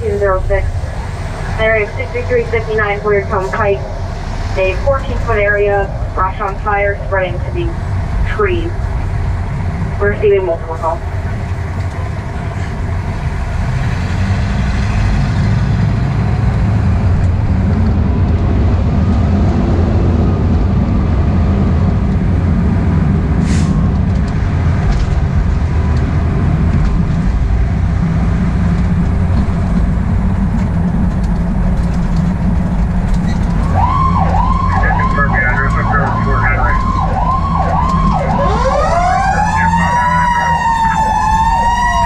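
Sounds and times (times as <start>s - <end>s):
diesel engine running: 0.0s - 42.0s
road and wind noise: 0.0s - 42.0s.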